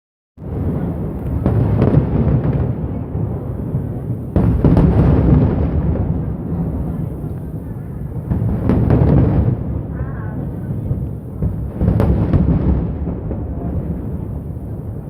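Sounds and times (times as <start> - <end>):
fireworks bangs: 0.4 - 15.0
fireworks rumble: 0.4 - 15.0.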